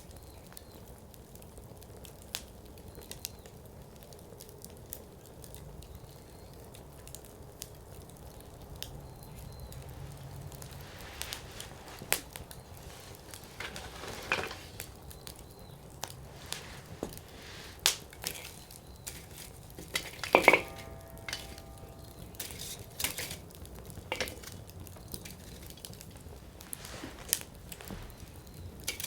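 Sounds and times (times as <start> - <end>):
firewood crackling and popping: 0.0 - 29.0
soft hiss of flame: 4.4 - 29.0.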